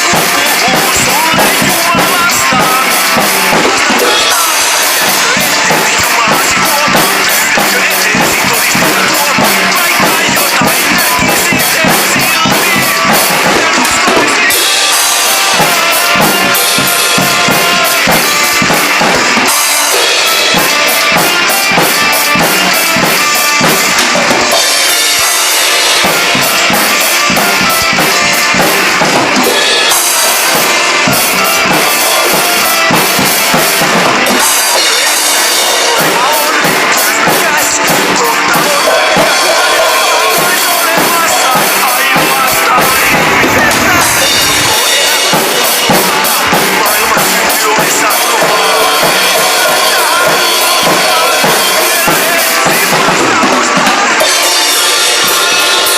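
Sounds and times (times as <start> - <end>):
drum kit playing: 0.0 - 55.9
recorded band song: 0.0 - 55.9.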